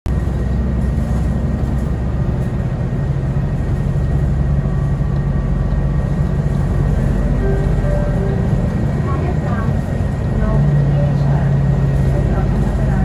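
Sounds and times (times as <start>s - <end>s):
bus drivetrain hum: 0.1s - 13.0s.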